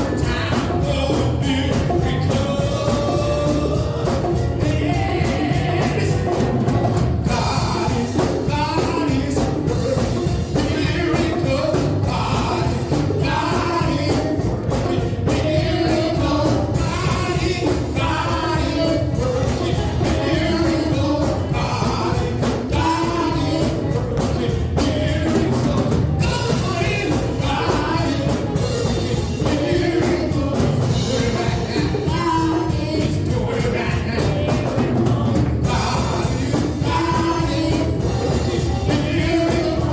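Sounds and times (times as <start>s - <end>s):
full band: 0.0s - 39.9s
singers: 0.0s - 39.9s
steady drum beat: 0.0s - 39.9s.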